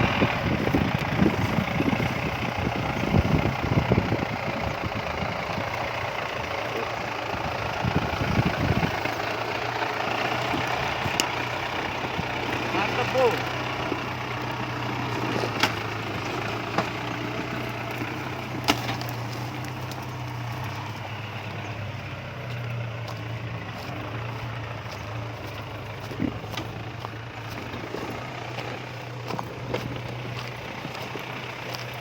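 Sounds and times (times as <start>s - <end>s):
diesel engine running at low revs: 0.0s - 32.0s.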